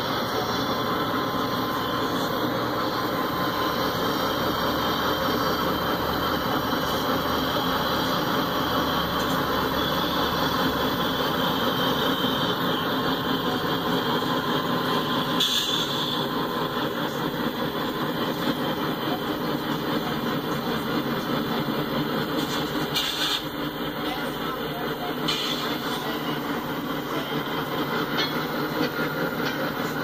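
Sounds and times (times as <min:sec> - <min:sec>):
diesel locomotive engine drone: 0:00.0 - 0:30.0
hopper cars rolling on rails: 0:00.0 - 0:30.0.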